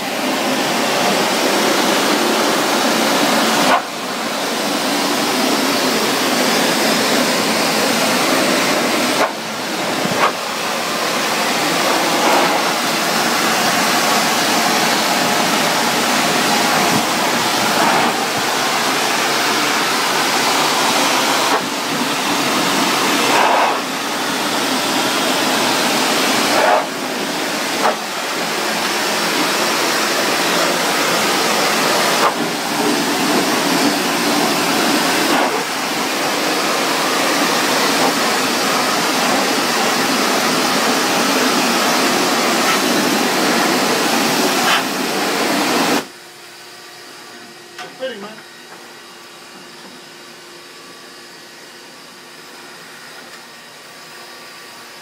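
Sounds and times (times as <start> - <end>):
pressure washer spraying metal: 0.0 - 46.1.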